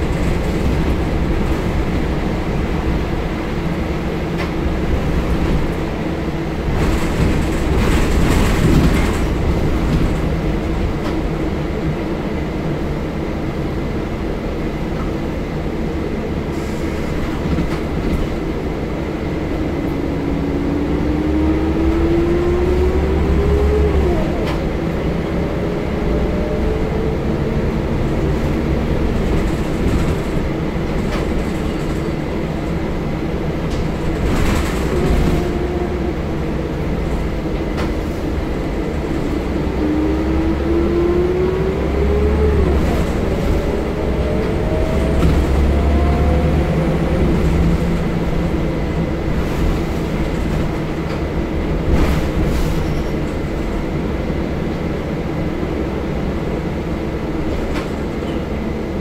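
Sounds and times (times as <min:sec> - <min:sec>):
bus drivetrain rumble: 0:00.0 - 0:59.0.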